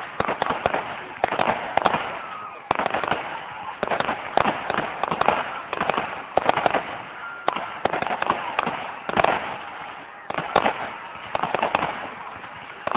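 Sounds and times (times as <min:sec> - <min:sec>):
fireworks bursting and crackling: 0:00.0 - 0:12.9.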